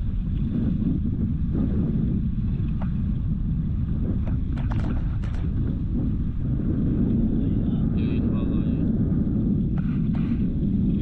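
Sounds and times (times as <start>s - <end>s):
boat engine rumble: 0.0s - 11.0s
wind buffeting microphone: 0.0s - 11.0s.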